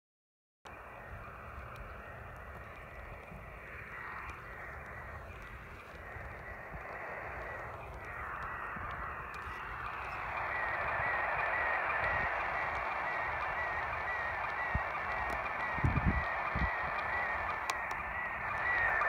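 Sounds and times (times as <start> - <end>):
faint wavering high whistle: 0.7 - 19.0
radio receiver hiss: 0.7 - 19.0.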